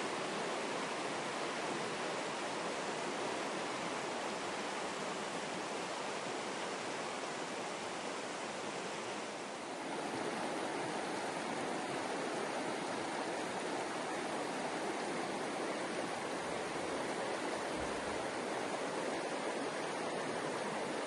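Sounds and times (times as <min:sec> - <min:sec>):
falling water rushing: 0:00.0 - 0:21.0.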